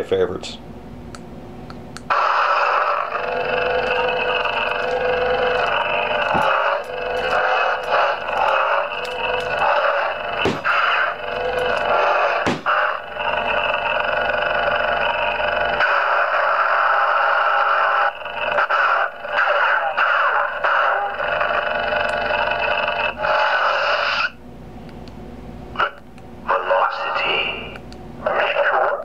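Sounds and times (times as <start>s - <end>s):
lightsaber electric hum: 0.0s - 29.0s.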